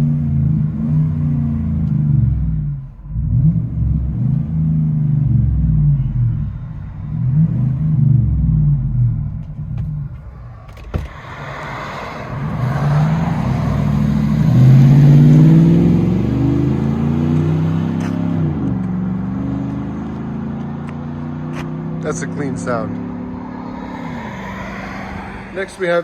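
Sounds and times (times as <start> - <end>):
car engine and exhaust rumble: 0.0 - 26.0.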